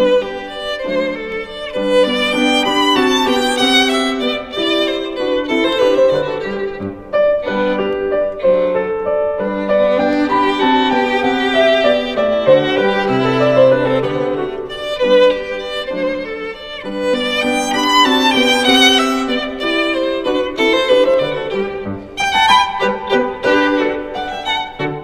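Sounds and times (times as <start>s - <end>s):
violin melody with vibrato: 0.0s - 25.0s.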